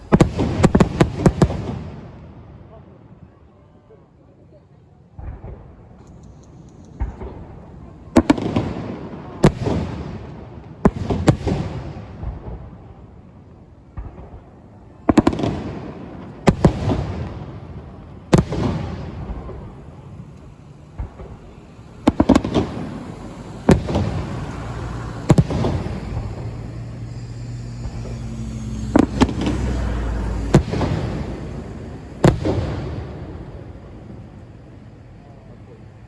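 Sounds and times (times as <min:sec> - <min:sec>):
fireworks booming with echo: 0:00.0 - 0:03.2, 0:05.1 - 0:36.0.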